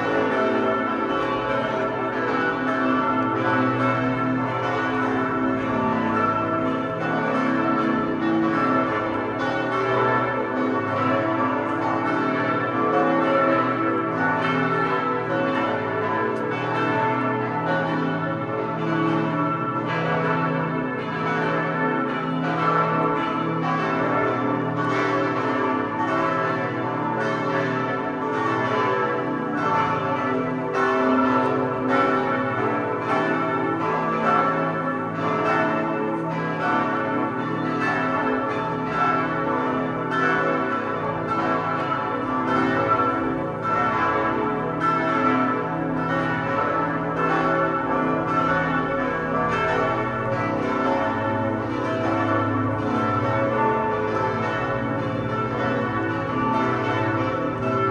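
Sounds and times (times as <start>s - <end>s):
church bells ringing: 0.0s - 57.9s.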